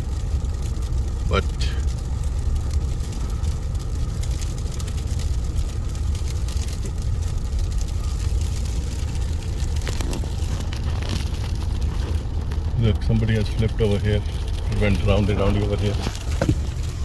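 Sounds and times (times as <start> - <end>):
car driving on snowy road: 0.0 - 17.0.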